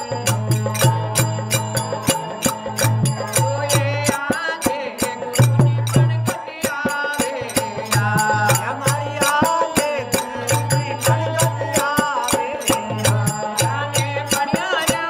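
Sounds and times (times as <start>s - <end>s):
hand drum: 0.0s - 15.0s
harmonium: 0.0s - 15.0s
person singing: 0.0s - 15.0s.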